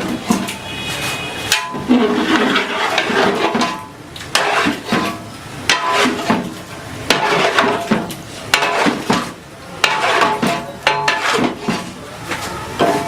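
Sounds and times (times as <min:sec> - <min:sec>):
metal spatula scraping pan: 0:00.0 - 0:13.0.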